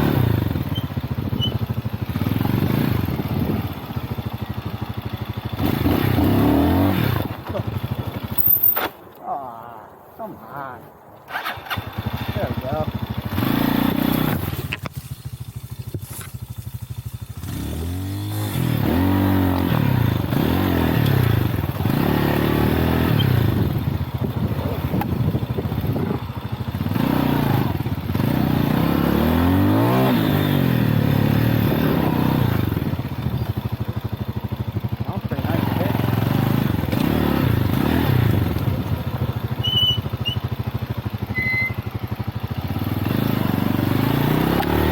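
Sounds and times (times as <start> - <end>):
motorcycle engine revving: 0.0 - 8.9, 11.2 - 44.9.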